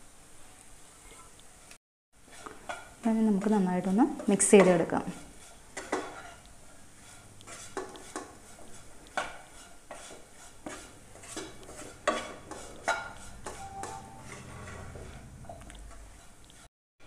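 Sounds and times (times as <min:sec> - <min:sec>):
spatula scraping frying pan: 0:02.2 - 0:16.7.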